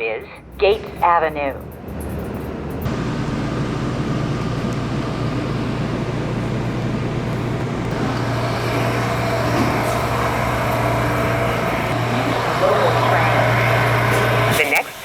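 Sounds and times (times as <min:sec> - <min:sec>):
subway train hum and rumble: 0:00.0 - 0:15.0.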